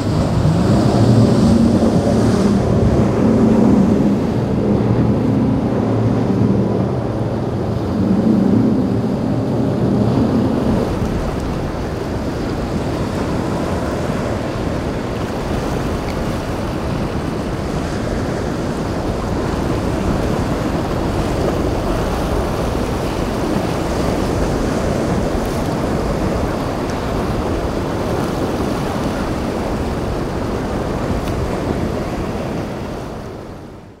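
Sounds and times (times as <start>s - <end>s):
boat engines rumbling: 0.0s - 34.0s
water rushing around boat hull: 0.0s - 34.0s
wind buffeting microphone: 0.0s - 34.0s.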